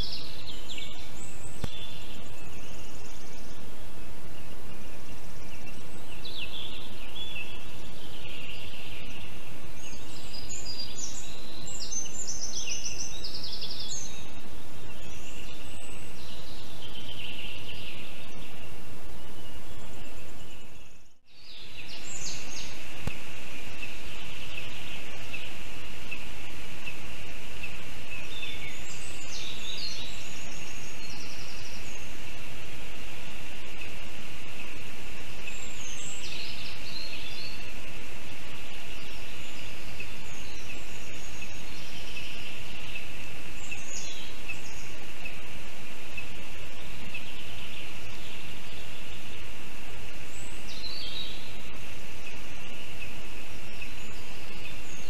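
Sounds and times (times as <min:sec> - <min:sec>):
small birds chirping: 0:00.0 - 0:55.0
steady hiss: 0:00.0 - 0:55.0.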